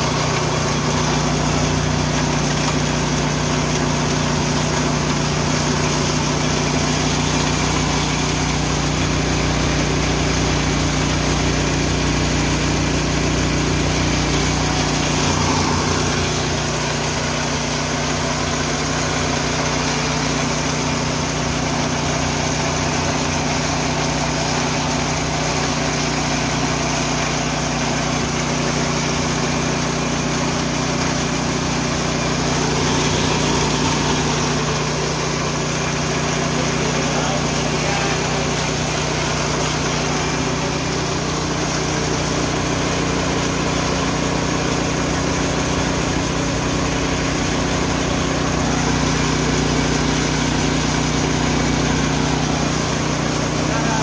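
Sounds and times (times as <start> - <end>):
milling machine engine running: 0.0 - 54.0.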